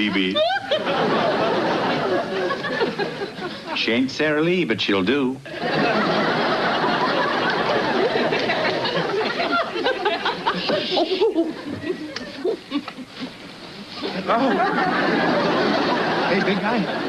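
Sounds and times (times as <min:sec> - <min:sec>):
audience laughing: 0:00.0 - 0:03.8, 0:05.5 - 0:13.4, 0:14.0 - 0:17.0.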